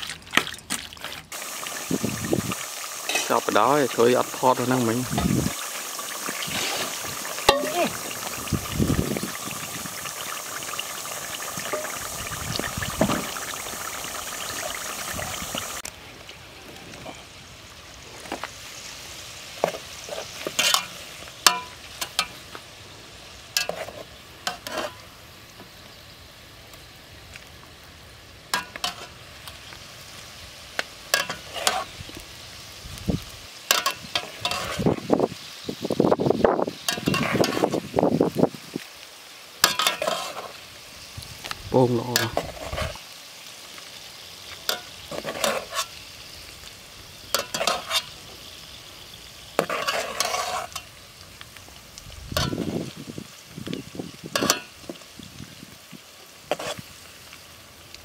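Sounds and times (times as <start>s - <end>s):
deep-frying oil sizzle: 1.3s - 58.0s.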